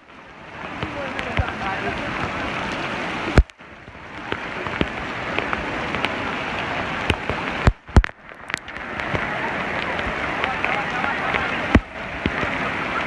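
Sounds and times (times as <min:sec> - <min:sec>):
heavy rain: 0:00.0 - 0:13.0
rain drop clicks: 0:00.0 - 0:13.0.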